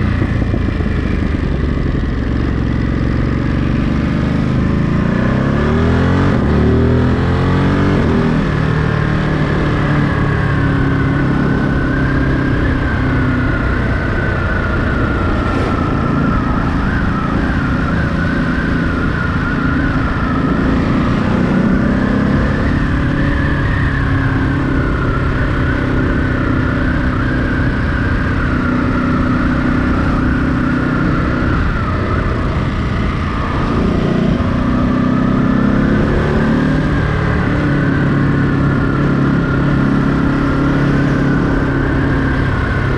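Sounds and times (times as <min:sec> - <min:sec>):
motorcycle engine revving: 0:00.0 - 0:42.9
road and wind noise: 0:00.0 - 0:42.9
siren wailing: 0:05.3 - 0:42.9.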